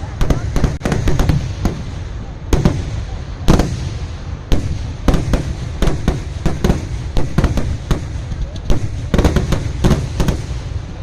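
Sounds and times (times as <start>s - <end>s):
fireworks sharp bangs: 0.0s - 11.0s
low rumble of explosions: 0.0s - 11.0s.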